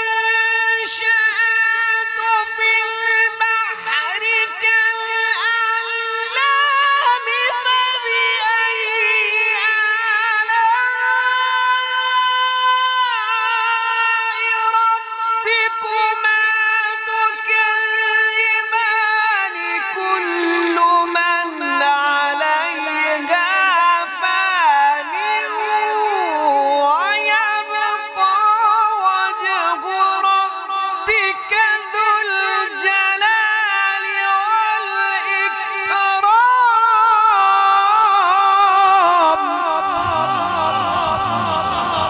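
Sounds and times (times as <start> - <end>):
man reciting melodically: 0.0 - 42.0.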